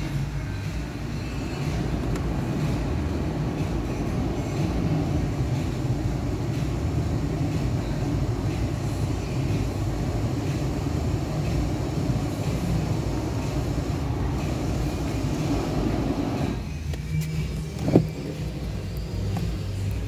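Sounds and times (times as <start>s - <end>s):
blower fan rushing: 0.0s - 20.0s
car engine idling: 0.0s - 20.0s.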